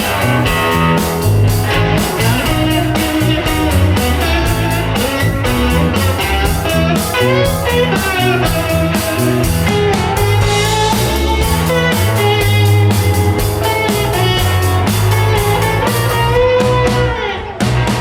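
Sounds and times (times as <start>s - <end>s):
bass guitar: 0.0s - 18.0s
electric guitar lead lines: 0.0s - 18.0s
steady drum beat: 0.0s - 18.0s.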